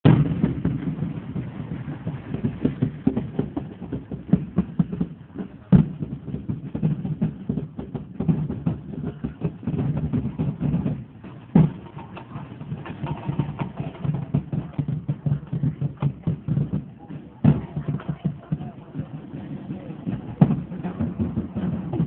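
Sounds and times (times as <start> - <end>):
drums beating fast rhythm: 0.0 - 22.0
crowd murmur: 0.2 - 22.0.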